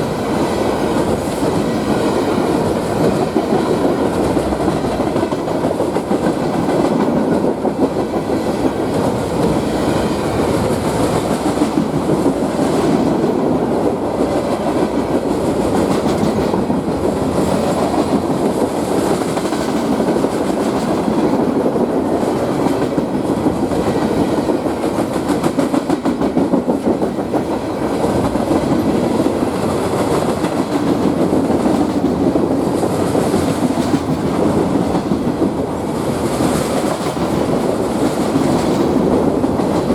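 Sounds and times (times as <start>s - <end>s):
freight train cars rolling past: 0.0s - 39.9s.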